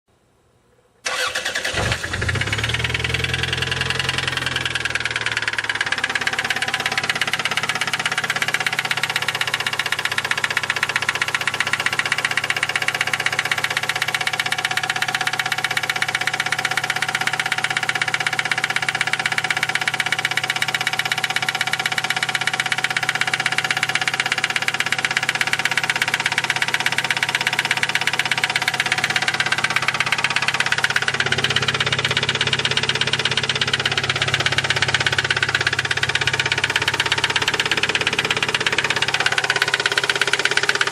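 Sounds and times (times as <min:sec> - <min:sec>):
car engine starting and idling: 0:01.0 - 0:40.9
rapid engine knocking: 0:02.0 - 0:40.9.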